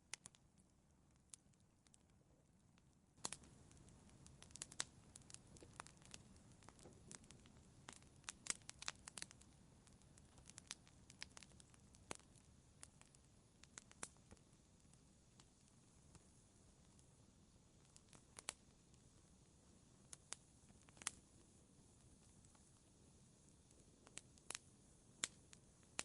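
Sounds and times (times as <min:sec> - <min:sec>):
soft low hiss: 0:00.0 - 0:26.0
wood fire crackling and popping: 0:00.0 - 0:26.0.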